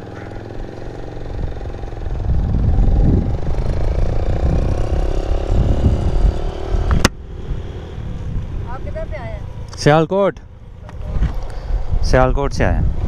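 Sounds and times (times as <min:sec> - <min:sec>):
motorcycle engine accelerating: 0:00.0 - 0:13.0
wind on microphone: 0:01.3 - 0:09.7, 0:10.9 - 0:13.0.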